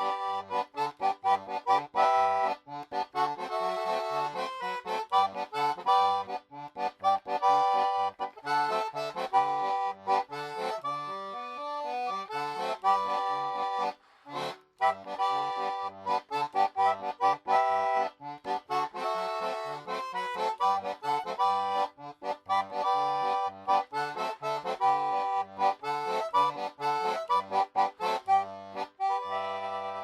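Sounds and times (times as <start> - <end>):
concertina playing lively tune: 0.0 - 30.0.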